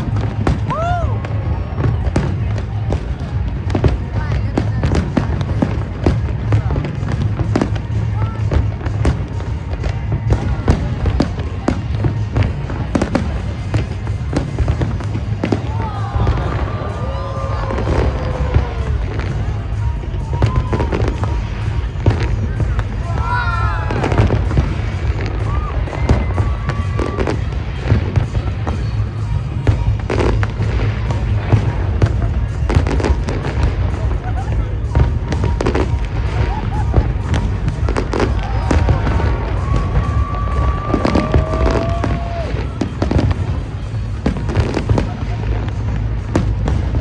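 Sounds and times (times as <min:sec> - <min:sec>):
fireworks bursting: 0:00.0 - 0:47.0
low rumble: 0:00.0 - 0:47.0.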